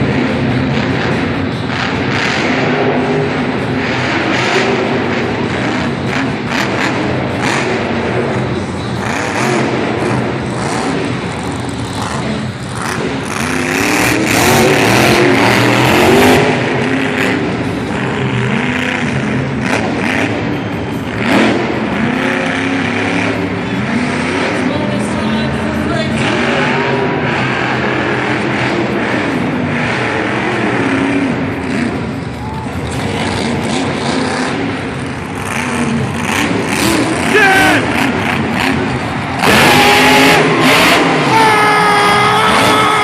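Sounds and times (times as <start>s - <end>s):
monster truck engines revving: 0.0s - 43.0s.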